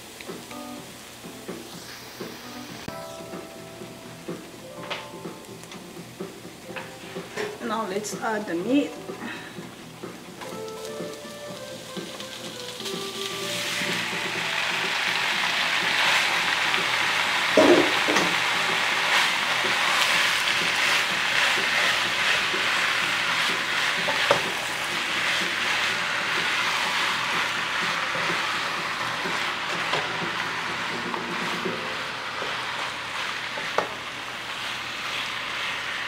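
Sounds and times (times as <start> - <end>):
meat sizzling in a pan: 0.0 - 2.9, 8.3 - 36.0.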